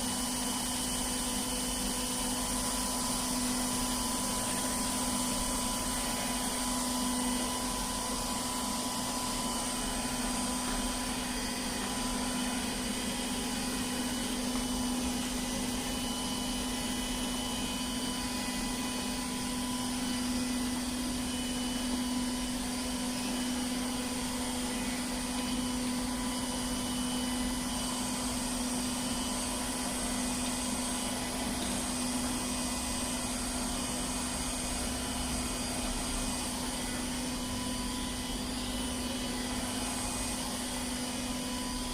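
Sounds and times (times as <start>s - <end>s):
robot vacuum motor hum: 0.0s - 41.9s.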